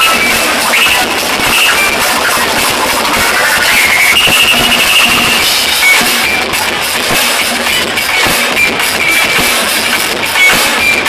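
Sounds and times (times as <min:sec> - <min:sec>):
drum hits: 0:00.0 - 0:11.0
live rock band: 0:00.0 - 0:11.0.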